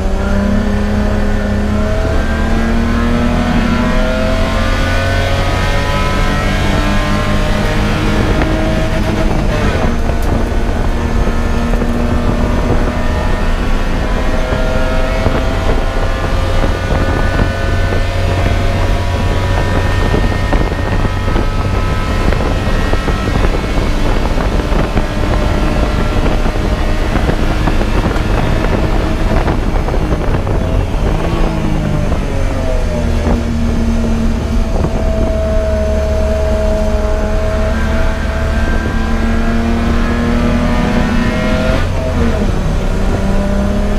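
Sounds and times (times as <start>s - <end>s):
race car engine running hard: 0.0s - 43.9s.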